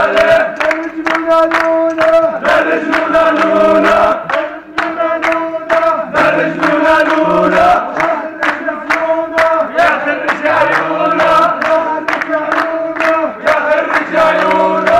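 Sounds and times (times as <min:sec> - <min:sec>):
young men chanting in unison: 0:00.0 - 0:14.9.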